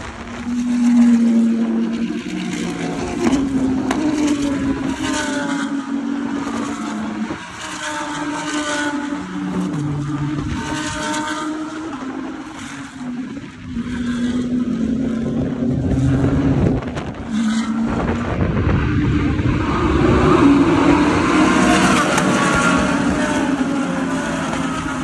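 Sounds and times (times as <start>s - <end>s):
race cars driving past: 0.0s - 25.0s.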